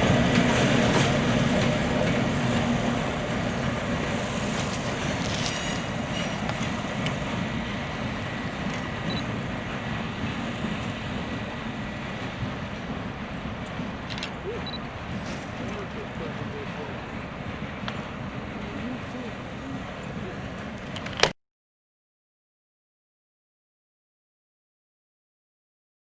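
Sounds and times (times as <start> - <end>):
train rumbling: 0.0 - 21.3.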